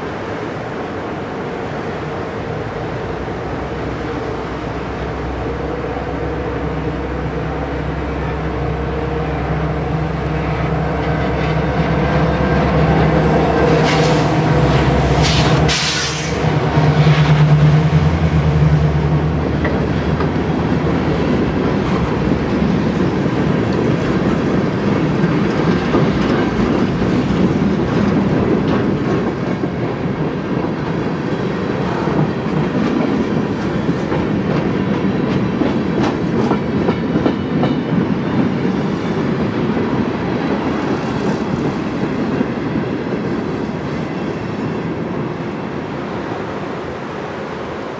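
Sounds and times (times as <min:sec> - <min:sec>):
diesel locomotives passing: 0:00.0 - 0:47.9.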